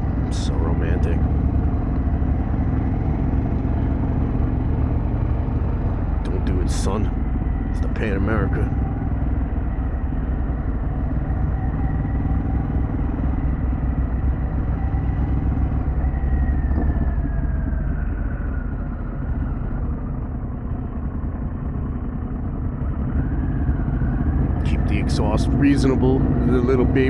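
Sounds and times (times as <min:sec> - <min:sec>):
motorcycle engine running: 0:00.0 - 0:27.0
road noise: 0:00.0 - 0:27.0.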